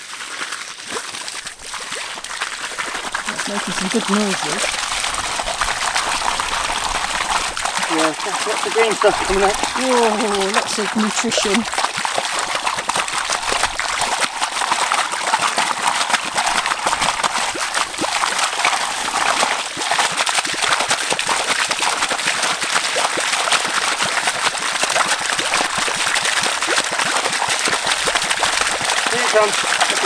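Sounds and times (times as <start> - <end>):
water gushing from pipe: 0.0 - 30.0
water splashing onto soil: 0.0 - 30.0.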